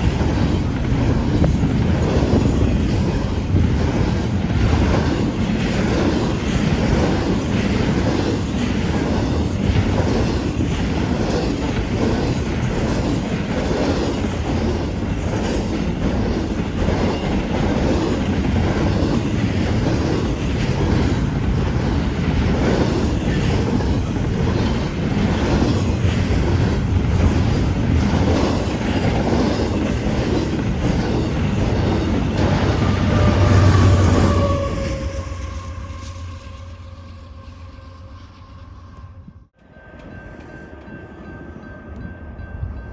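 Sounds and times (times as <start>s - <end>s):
train rumble: 0.0s - 42.9s
train wheels clicking on rail joints: 0.0s - 42.9s.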